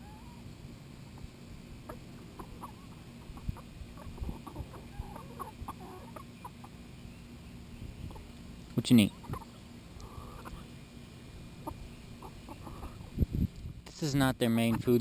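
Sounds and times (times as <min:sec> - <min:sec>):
chickens clucking: 0:00.0 - 0:13.5, 0:14.1 - 0:15.0.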